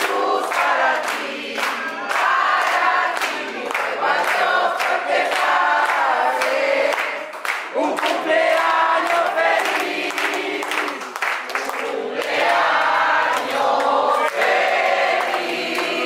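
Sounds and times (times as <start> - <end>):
group singing in unison: 0.0 - 16.0
people clapping in time: 0.0 - 16.0.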